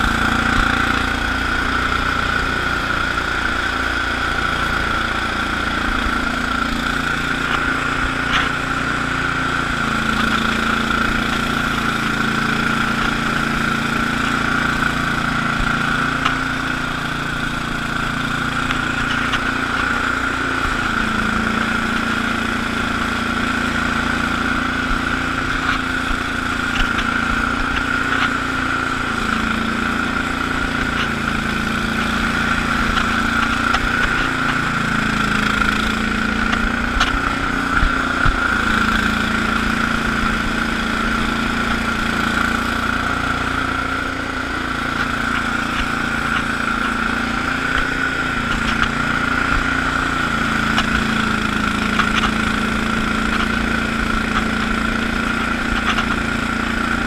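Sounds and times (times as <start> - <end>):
garden tractor engine running: 0.0 - 57.0.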